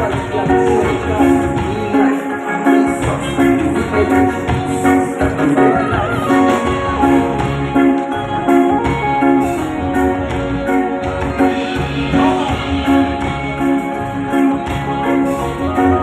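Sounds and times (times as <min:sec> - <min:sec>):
live band music with steady beat: 0:00.0 - 0:16.0.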